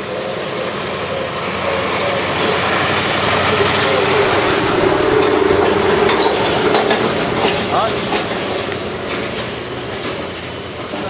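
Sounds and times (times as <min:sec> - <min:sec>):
large vehicle running: 0:00.0 - 0:11.0.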